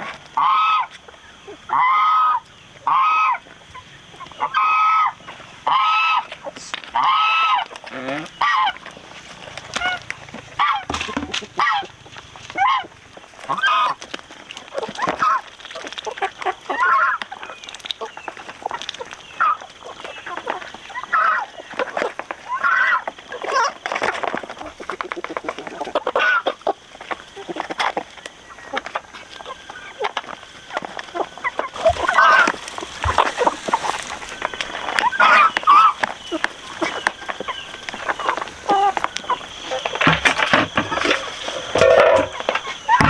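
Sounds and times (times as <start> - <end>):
fowl honking: 0.0 - 9.0, 9.7 - 14.0, 16.1 - 23.8, 24.6 - 43.0.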